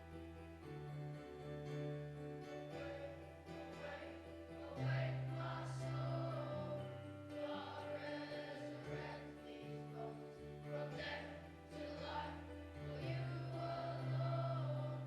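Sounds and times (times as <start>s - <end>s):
group singing church music: 2.6s - 15.0s.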